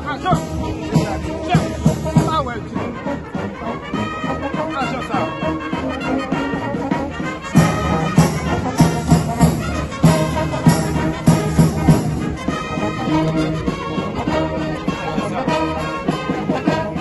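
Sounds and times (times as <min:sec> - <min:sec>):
brass band playing: 0:00.0 - 0:17.0.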